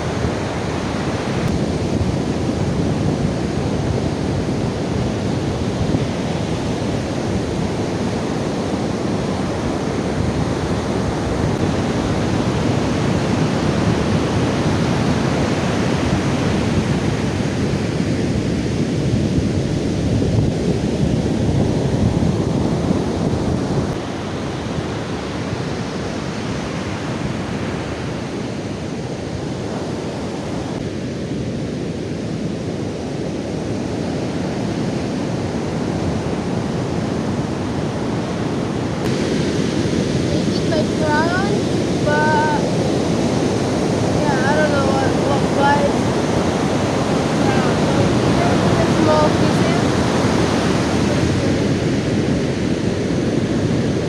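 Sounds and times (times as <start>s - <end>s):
surf on beach: 0.0s - 54.0s
wind buffeting microphone: 0.0s - 54.0s.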